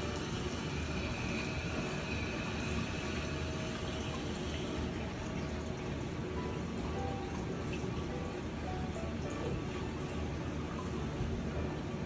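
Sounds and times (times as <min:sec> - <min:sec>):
urinal flushing water hiss: 0:00.0 - 0:12.0.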